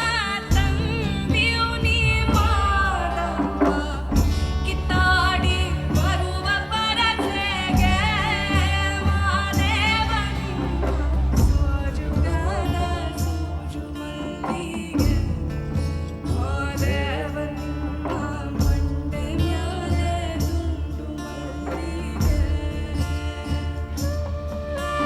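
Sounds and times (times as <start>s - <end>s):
woman singing folk song: 0.0s - 25.0s.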